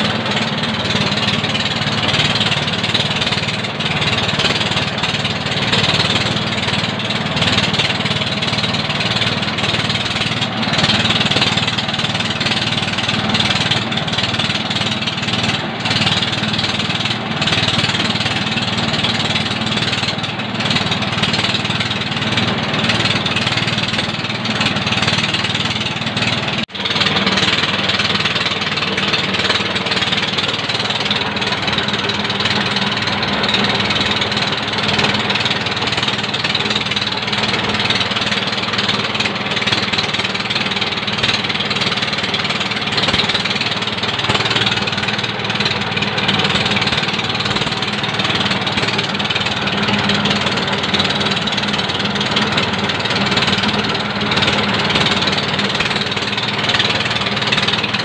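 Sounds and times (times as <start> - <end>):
diesel engine chugging: 0.0 - 58.0
rice mill rattling grain: 0.0 - 58.0.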